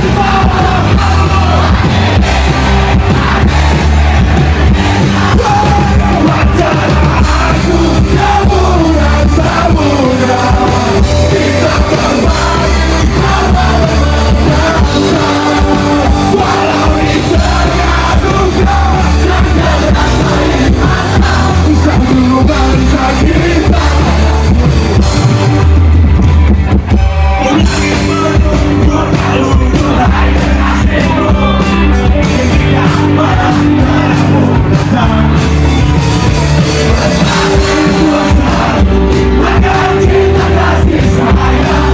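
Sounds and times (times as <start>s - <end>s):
person singing: 0.0s - 25.3s, 27.1s - 35.8s, 36.7s - 41.9s
punk rock band playing: 0.0s - 41.9s.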